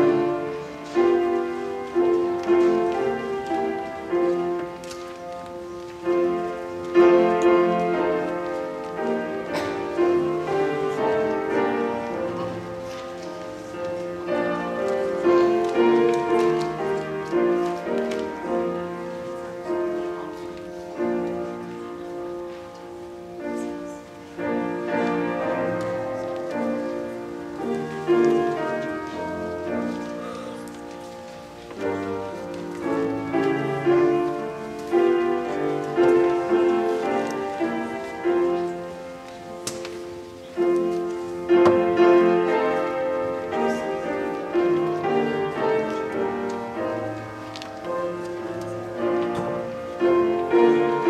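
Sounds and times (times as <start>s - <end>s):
slow piano music: 0.0s - 51.0s.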